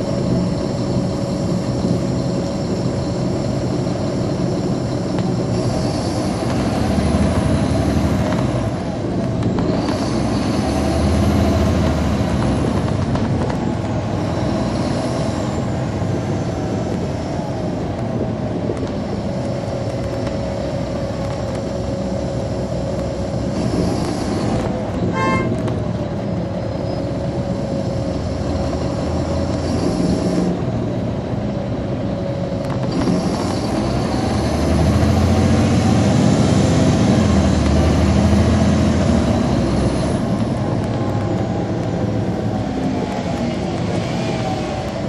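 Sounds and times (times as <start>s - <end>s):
bus diesel engine: 0.0s - 45.0s.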